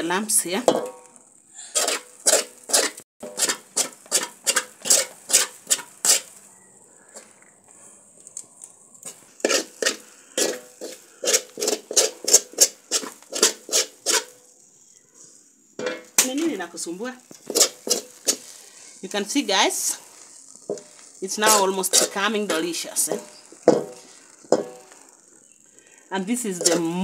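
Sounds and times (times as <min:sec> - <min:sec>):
metal spoon scraping wok: 0:00.0 - 0:07.4, 0:09.0 - 0:27.0.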